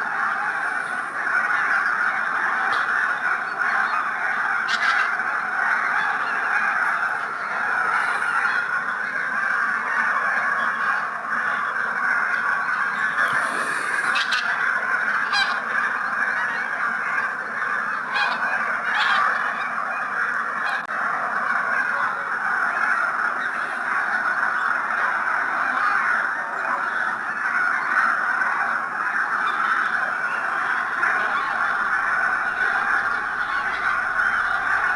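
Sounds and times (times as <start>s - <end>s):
flock of geese honking: 0.0s - 34.9s.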